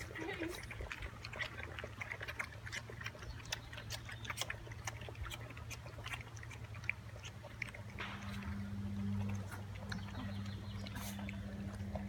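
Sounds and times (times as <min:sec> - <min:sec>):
puppies chewing food: 0:00.0 - 0:12.0.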